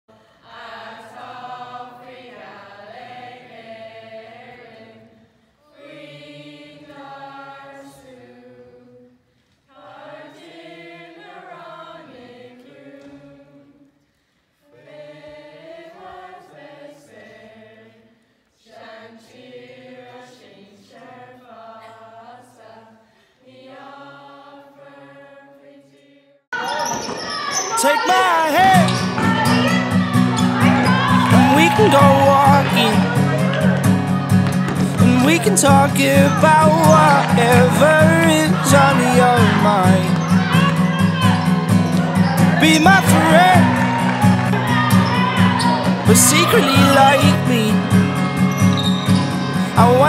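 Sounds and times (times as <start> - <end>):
voices singing together: 0.1 - 14.0, 14.6 - 50.0.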